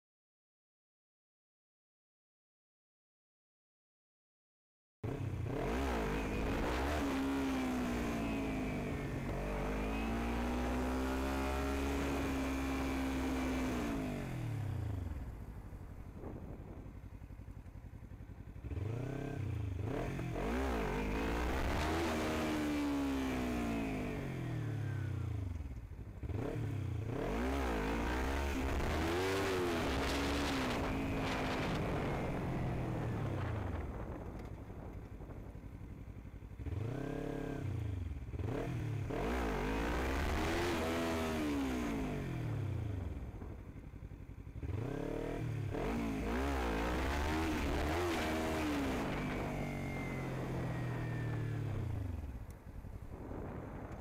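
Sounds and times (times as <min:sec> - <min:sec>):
motorcycle engine revving: 0:05.0 - 0:54.0.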